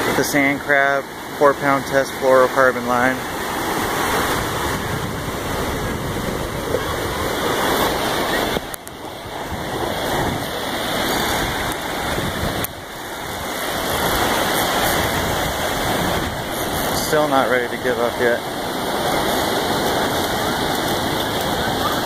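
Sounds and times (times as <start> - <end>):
ocean surf washing up beach: 0.0 - 22.0.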